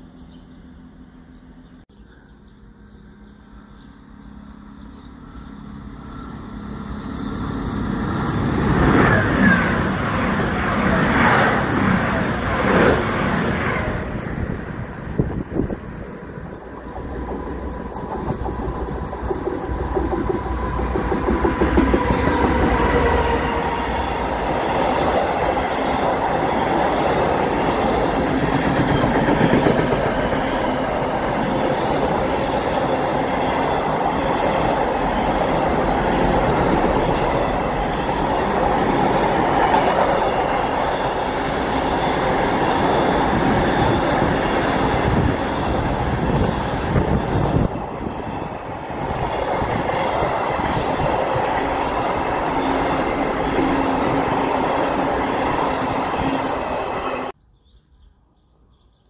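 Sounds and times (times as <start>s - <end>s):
freight train wheels rumbling on rails: 3.8s - 57.4s.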